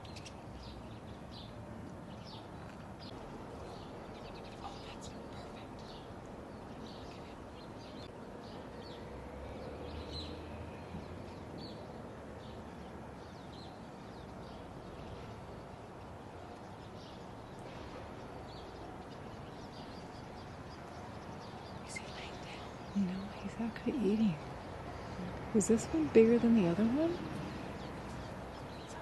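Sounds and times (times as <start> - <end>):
outdoor background hiss: 0.0 - 29.0
small birds chirping: 0.0 - 29.0.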